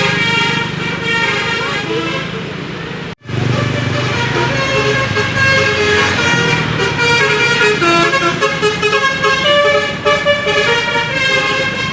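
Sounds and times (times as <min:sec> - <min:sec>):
bus horn playing multi-tone tune: 0:00.0 - 0:11.9
low hum of engines in traffic: 0:00.0 - 0:11.9.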